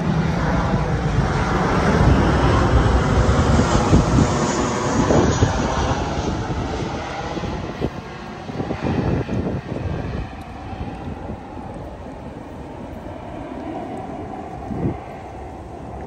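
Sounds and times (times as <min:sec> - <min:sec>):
passing engine rumble: 0:00.0 - 0:16.0.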